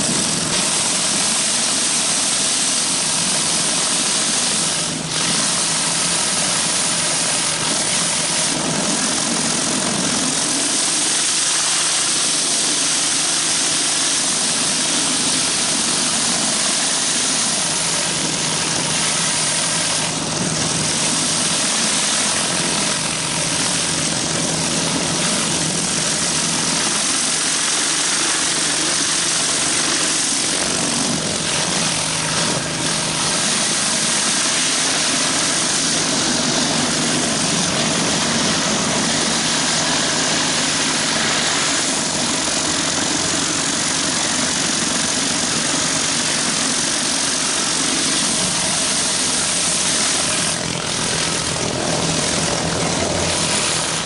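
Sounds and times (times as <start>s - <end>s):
high-pressure water spraying: 0.0s - 54.0s
pressure washer engine running: 0.0s - 54.0s.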